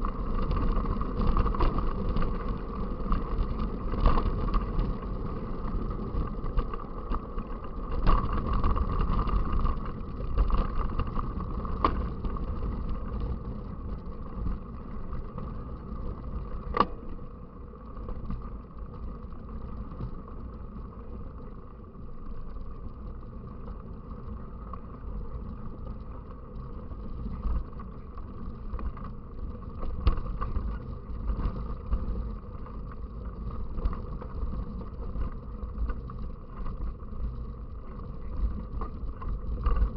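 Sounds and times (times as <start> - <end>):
bike tyres rumbling: 0.0 - 39.9.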